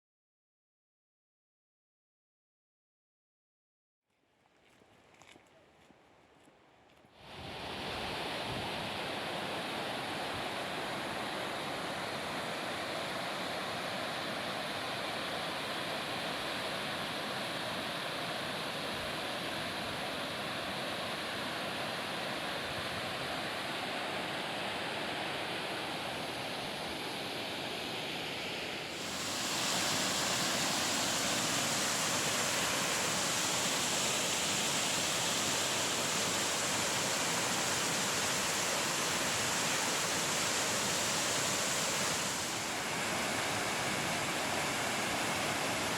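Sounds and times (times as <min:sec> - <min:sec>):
waterfall rushing water: 0:07.2 - 0:45.9.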